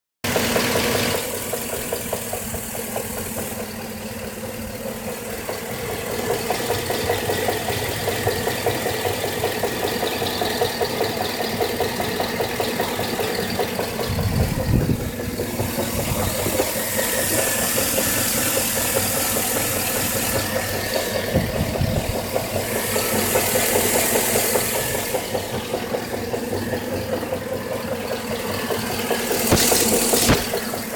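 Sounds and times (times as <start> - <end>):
engine idling: 0.2 - 30.9
engine knocking: 0.2 - 30.9.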